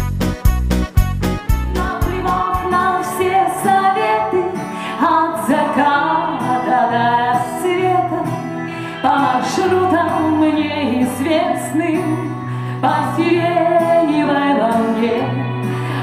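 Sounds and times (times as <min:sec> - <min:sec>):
pop backing track: 0:00.0 - 0:16.0
woman singing into a microphone: 0:01.8 - 0:16.0.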